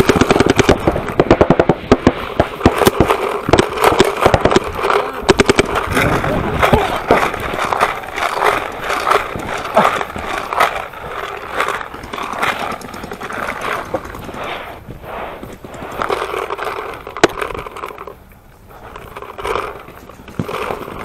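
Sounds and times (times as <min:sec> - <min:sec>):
paintballs smacking inflatable bunker: 0:00.0 - 0:18.2, 0:18.8 - 0:21.0
sharp crack: 0:00.0 - 0:18.2
paintball markers firing: 0:00.0 - 0:21.0
wind noise: 0:00.0 - 0:21.0.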